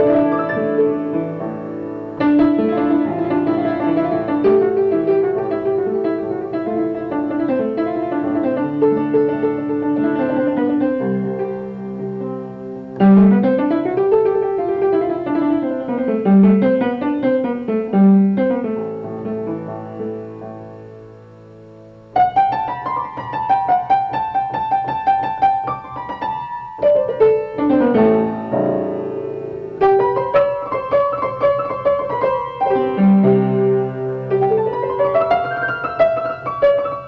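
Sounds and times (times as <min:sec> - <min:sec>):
solo piano melody: 0:00.0 - 0:37.0.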